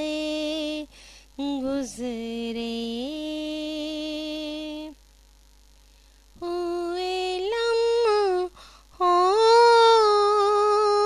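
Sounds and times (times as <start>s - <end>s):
woman singing unaccompanied: 0.0s - 5.0s, 6.4s - 11.0s.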